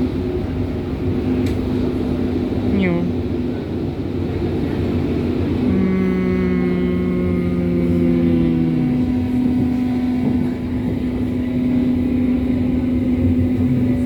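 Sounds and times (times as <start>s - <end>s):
train drive tones humming: 0.0s - 14.0s
train rumbling: 0.0s - 14.0s.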